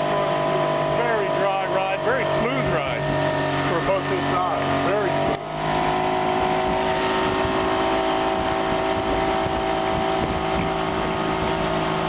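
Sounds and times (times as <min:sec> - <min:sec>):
churning wake: 0:00.0 - 0:12.0
outboard motor running: 0:00.0 - 0:12.0
wind and water rushing: 0:00.0 - 0:12.0.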